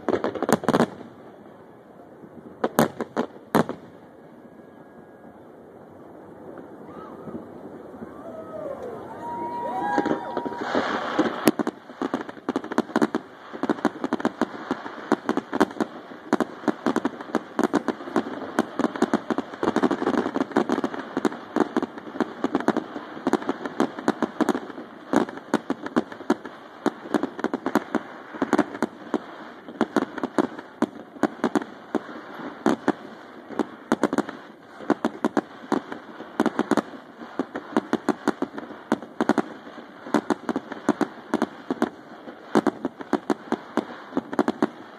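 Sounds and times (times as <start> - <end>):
fireworks bursting with sharp bangs: 0.0 - 44.9
fireworks rumble and crackle: 0.0 - 44.9.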